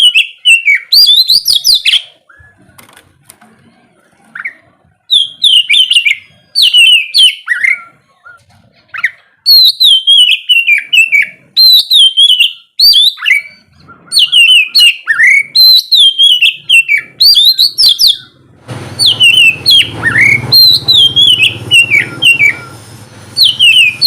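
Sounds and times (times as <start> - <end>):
bird singing whistled phrases: 0.0 - 2.6, 4.4 - 18.4, 19.0 - 22.8, 23.4 - 24.0.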